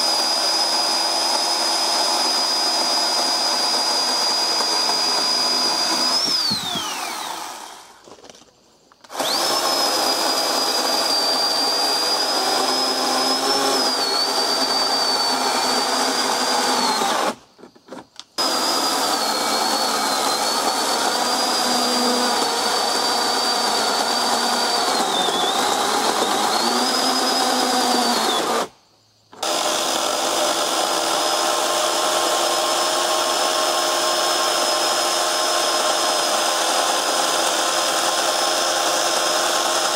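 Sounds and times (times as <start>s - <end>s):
electric chainsaw cutting logs: 0.0s - 8.1s, 9.0s - 28.7s, 29.4s - 39.9s.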